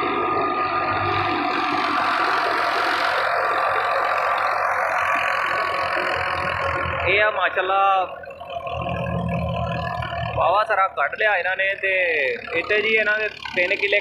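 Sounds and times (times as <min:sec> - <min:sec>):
low engine hum: 0:00.0 - 0:14.0
thresher whining mechanical noise: 0:00.0 - 0:14.0.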